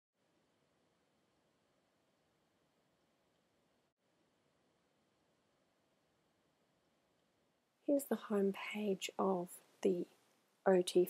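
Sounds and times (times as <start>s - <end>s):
faint recording hiss: 0.2s - 11.0s.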